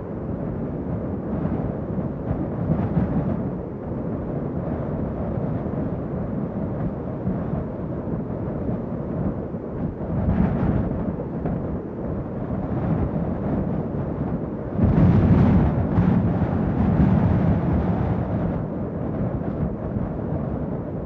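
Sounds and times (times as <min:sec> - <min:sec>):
strong wind blowing: 0:00.0 - 0:21.0.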